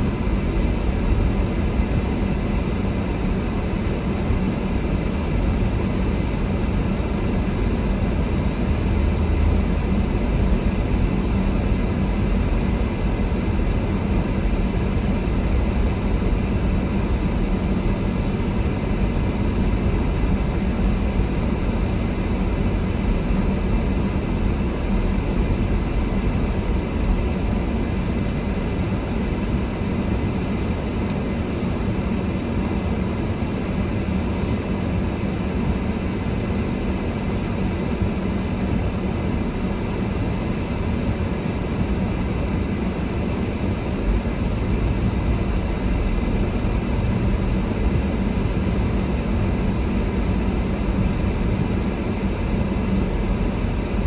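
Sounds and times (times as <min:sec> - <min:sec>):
car engine and tyre rumble: 0:00.1 - 0:33.0, 0:39.2 - 0:54.0.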